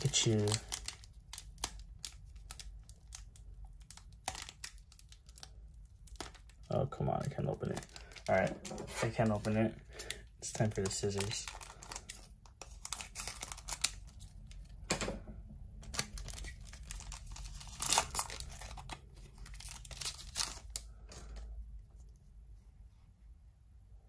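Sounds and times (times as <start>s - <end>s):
foil pack crinkling and tearing: 0.0s - 14.8s, 15.8s - 21.5s.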